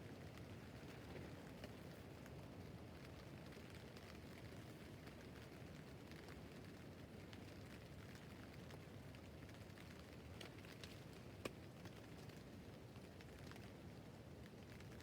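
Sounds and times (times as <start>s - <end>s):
faint rain on a tent roof: 0.0s - 15.0s
raindrop ticks: 0.2s - 15.0s.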